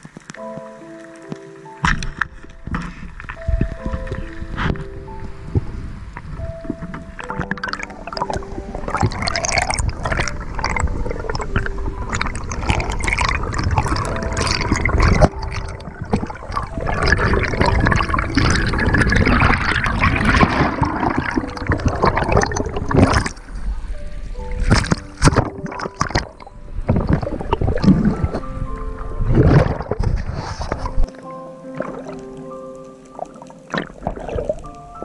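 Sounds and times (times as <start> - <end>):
crackling and small knocks: 0.0 - 23.5, 24.6 - 28.5, 29.4 - 32.3
choppy sea water: 0.0 - 35.0
underwater gurgling and bubbling: 1.8 - 35.0.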